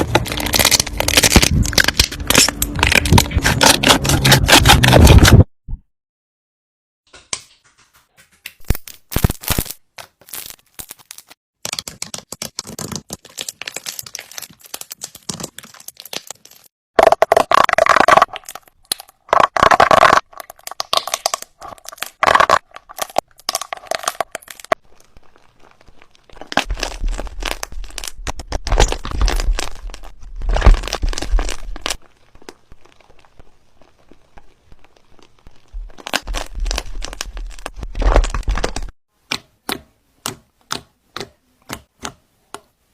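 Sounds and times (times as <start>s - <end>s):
slime crackling and popping: 0.0s - 5.0s, 8.6s - 39.0s.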